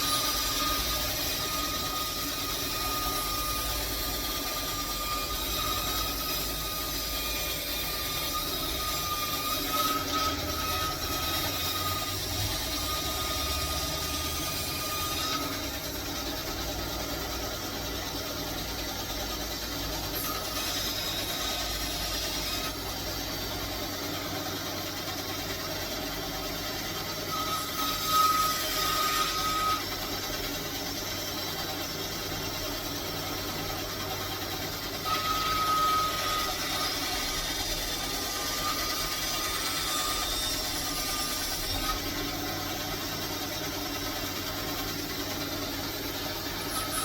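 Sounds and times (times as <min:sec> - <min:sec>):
power tool running: 0:00.0 - 0:47.0.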